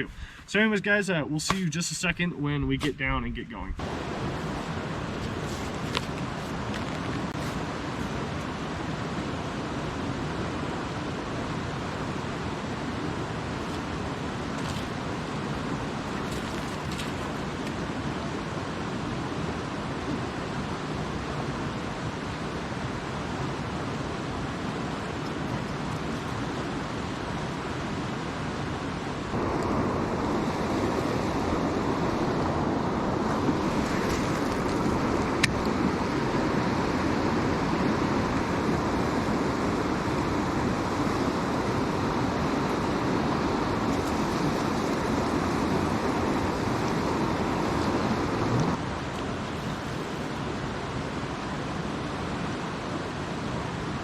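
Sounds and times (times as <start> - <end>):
creek water rushing: 3.8 - 54.0.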